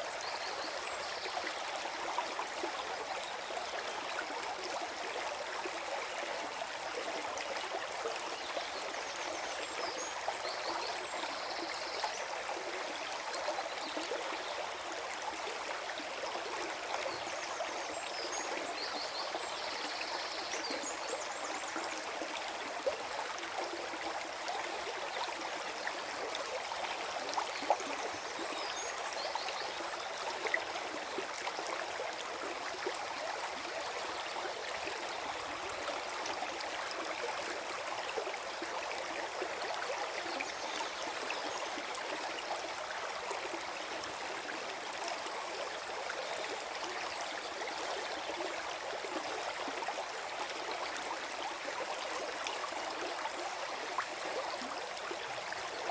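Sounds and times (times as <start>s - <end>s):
stream flowing and gurgling: 0.0s - 55.9s.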